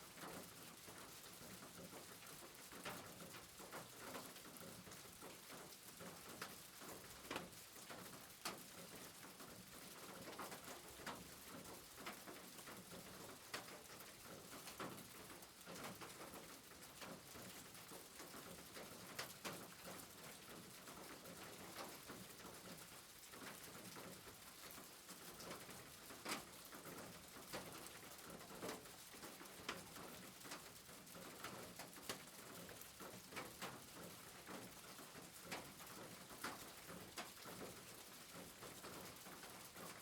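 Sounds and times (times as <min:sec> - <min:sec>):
faint steady rain: 0:00.0 - 0:40.0.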